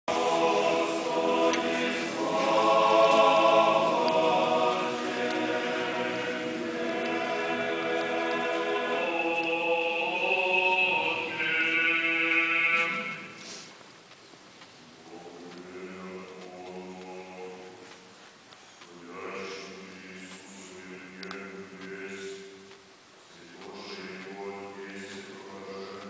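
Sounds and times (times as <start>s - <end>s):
choir singing chant a cappella: 0.1s - 13.6s, 15.1s - 17.9s, 18.9s - 22.7s, 23.4s - 26.0s.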